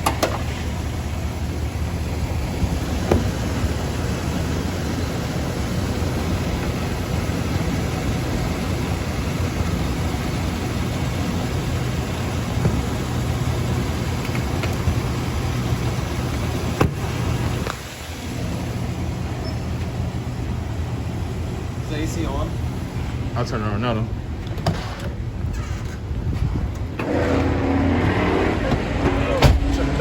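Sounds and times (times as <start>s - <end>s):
car engine idling: 0.0s - 24.6s.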